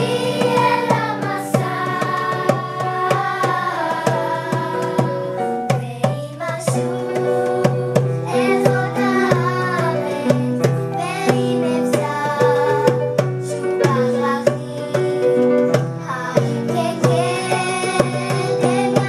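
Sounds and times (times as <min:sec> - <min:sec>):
children's choir singing: 0:00.0 - 0:19.0
hand drum beating: 0:00.0 - 0:19.0.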